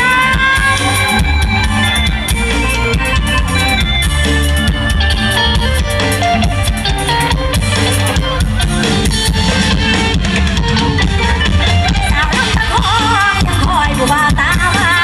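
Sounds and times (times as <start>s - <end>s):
bass guitar: 0.0s - 15.0s
drum kit steady beat: 0.0s - 15.0s
electric guitar: 0.0s - 15.0s.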